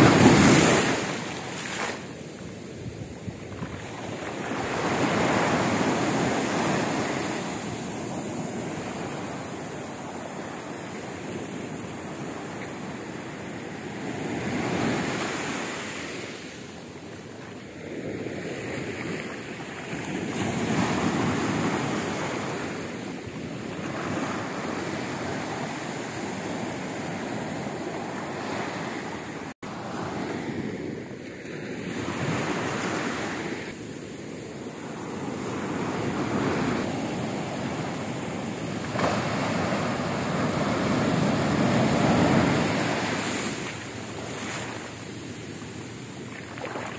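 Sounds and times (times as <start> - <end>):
ocean waves breaking on beach: 0.0 - 46.9.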